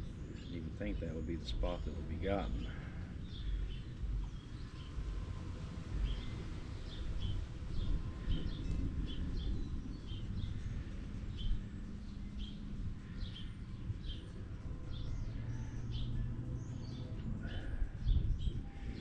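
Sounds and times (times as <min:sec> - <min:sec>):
bird chirping: 0:00.0 - 0:19.0
steady low rumble: 0:00.0 - 0:19.0.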